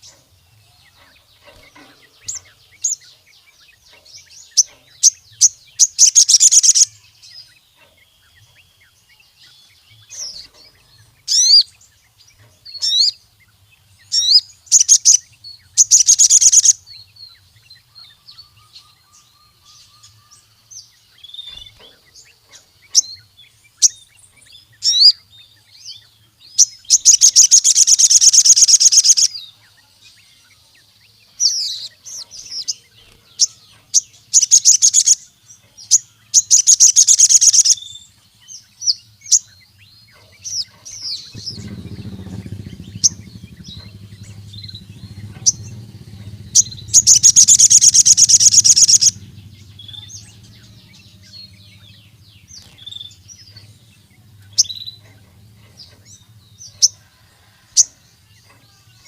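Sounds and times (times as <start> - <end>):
sunbird singing high rapid trills: 0.0 - 59.0.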